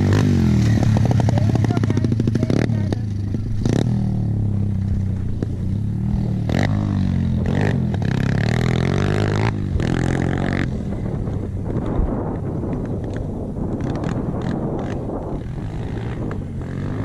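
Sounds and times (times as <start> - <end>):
dirt bike engine revving: 0.0 - 12.3, 13.8 - 17.0.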